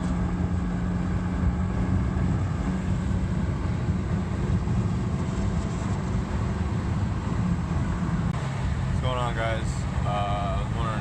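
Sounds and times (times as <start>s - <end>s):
car road and drivetrain rumble: 0.0s - 11.0s.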